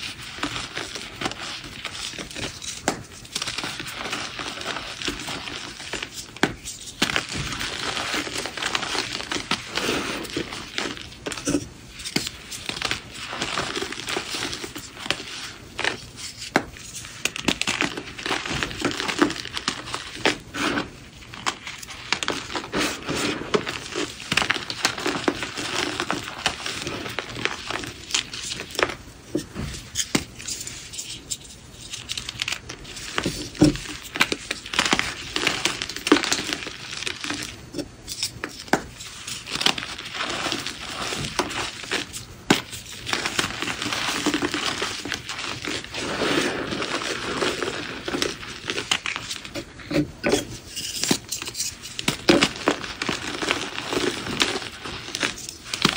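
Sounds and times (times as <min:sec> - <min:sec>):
chalk crunching and scrunching: 0:00.0 - 0:55.9.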